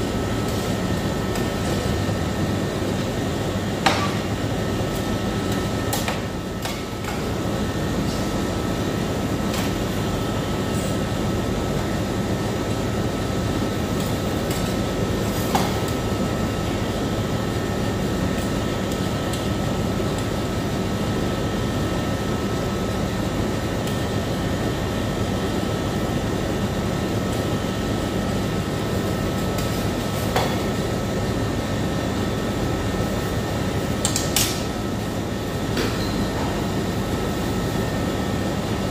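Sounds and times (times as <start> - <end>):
refrigeration fans humming: 0.0 - 38.9.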